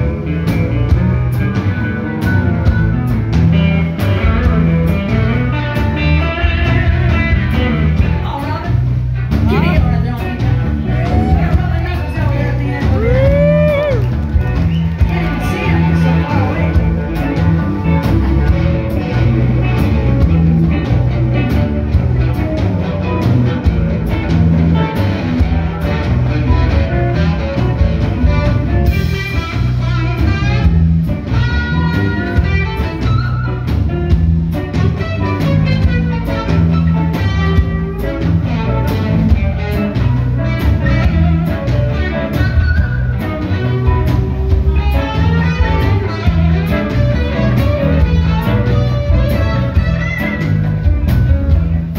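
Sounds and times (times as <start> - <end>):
blues band playing: 0.0 - 51.9
electric guitar solo: 0.0 - 51.9.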